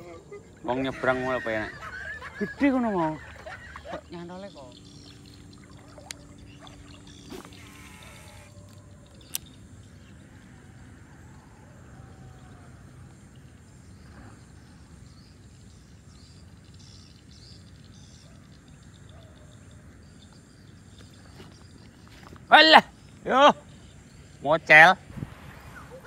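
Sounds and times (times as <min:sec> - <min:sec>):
faint bird chirps: 0:00.1 - 0:24.6.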